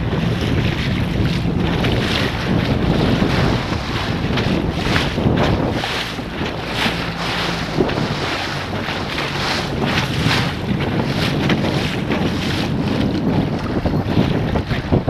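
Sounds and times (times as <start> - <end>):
waves splashing: 0.0 - 15.0
wind buffeting microphone: 0.0 - 15.0.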